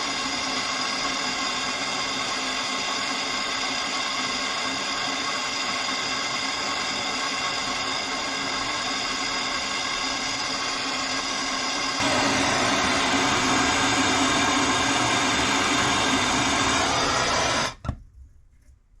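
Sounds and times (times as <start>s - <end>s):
small electric motor whining: 0.0s - 17.9s.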